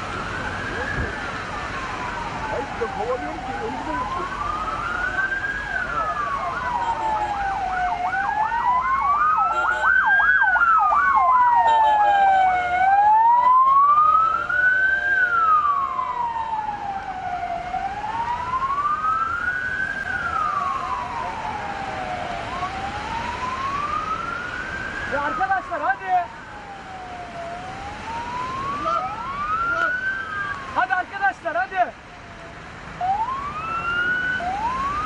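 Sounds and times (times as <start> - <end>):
siren wailing: 0.0 - 31.2, 32.1 - 35.0
siren yelping: 0.0 - 32.4, 33.0 - 35.0.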